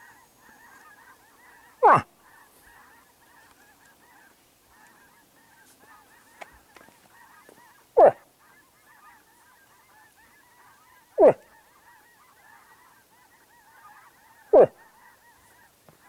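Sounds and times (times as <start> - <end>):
faint chorus of birds calling: 0.0 - 16.0.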